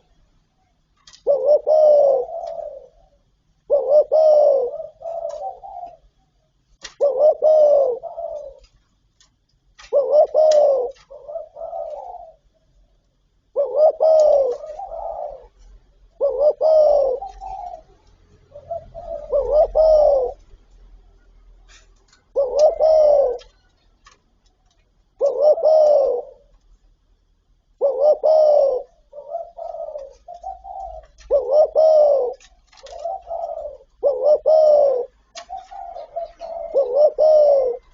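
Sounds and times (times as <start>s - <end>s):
dove cooing: 0.0s - 8.8s, 9.8s - 20.7s, 21.4s - 24.2s, 25.1s - 26.6s, 27.6s - 37.9s.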